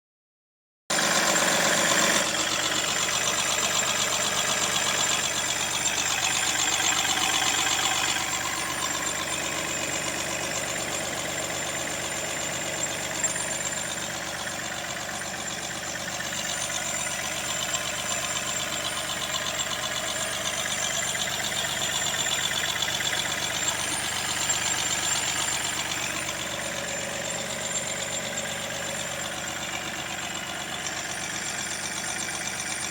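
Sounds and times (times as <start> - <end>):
diesel engine idling: 0.9 - 32.9
squeaky engine noise: 0.9 - 32.9.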